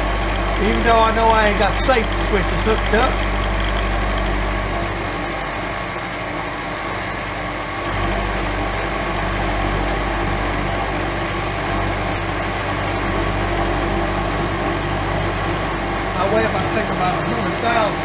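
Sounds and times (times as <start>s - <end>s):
milling machine hum: 0.0s - 18.0s.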